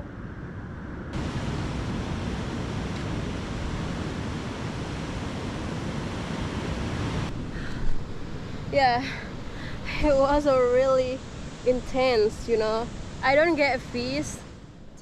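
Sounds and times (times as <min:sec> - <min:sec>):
wind on microphone: 0:00.0 - 0:14.5
ocean surf washing on beach: 0:01.1 - 0:14.6.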